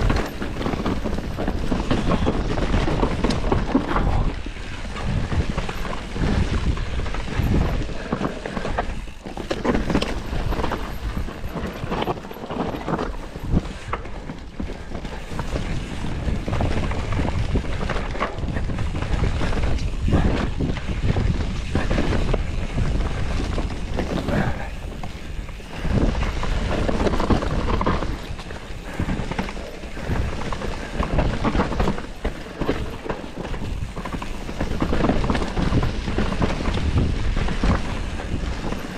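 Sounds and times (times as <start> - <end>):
bike knocking and rattling: 0.0 - 38.9
bike tyres rolling over dirt: 0.0 - 38.9
wind on microphone: 0.0 - 38.9.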